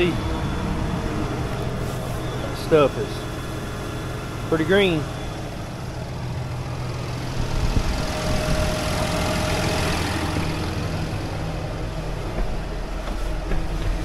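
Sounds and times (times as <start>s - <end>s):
thin steady whine: 0.0s - 14.0s
tractor engine idling: 0.0s - 14.0s.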